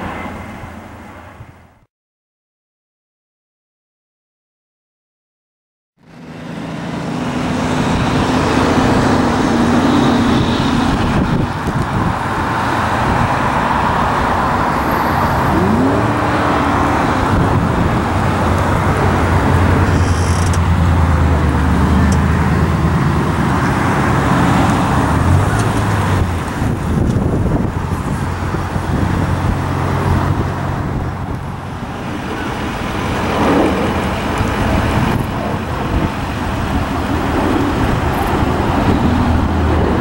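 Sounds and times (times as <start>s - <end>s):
jet engines droning overhead: 0.0s - 1.9s, 6.0s - 40.0s
road traffic: 0.0s - 1.9s, 6.0s - 40.0s.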